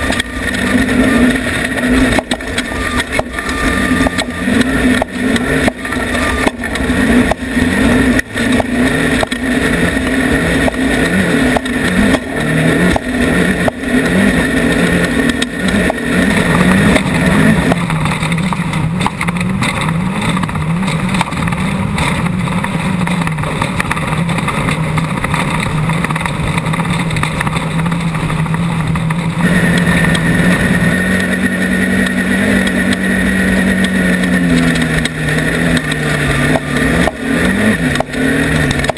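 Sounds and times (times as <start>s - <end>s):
engine revving: 0.0s - 38.9s.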